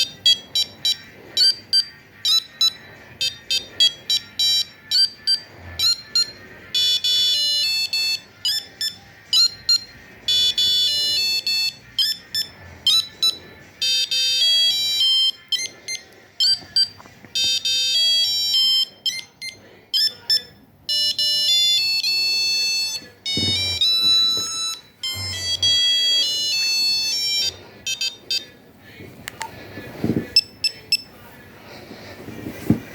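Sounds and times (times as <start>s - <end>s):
mobile phone ringtone beeps: 0.0s - 28.6s, 30.4s - 31.1s.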